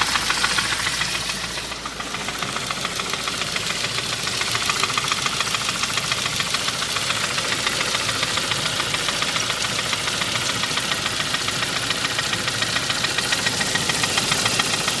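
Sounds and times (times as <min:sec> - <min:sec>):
car engine running: 0:00.0 - 0:15.0
rapid ticking engine knock: 0:00.0 - 0:15.0.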